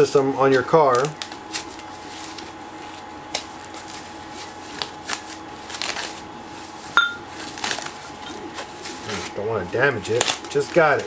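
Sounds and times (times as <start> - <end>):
plastic packaging crinkling: 0.6 - 11.0.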